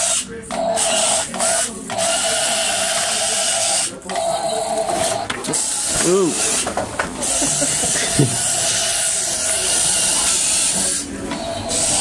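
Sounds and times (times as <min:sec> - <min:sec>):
toy electric motors whirring: 0:00.0 - 0:12.0.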